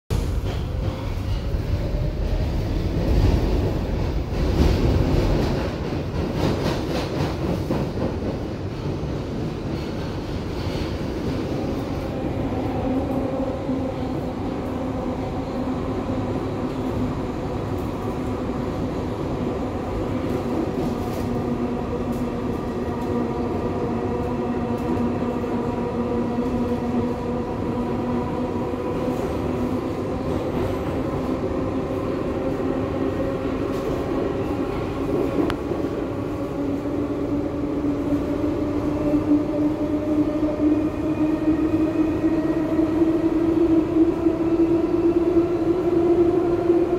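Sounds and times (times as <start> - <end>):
subway train whine: 0.1 - 46.9.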